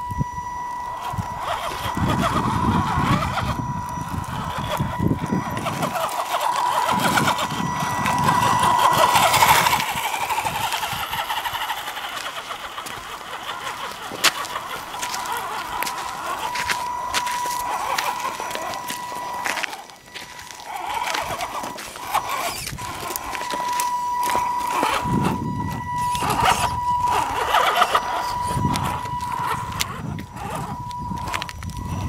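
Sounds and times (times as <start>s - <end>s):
electric motor and gears whining: 0.0s - 32.0s
stones crunching: 1.0s - 32.0s
tyres scrabbling on rock: 1.0s - 32.0s.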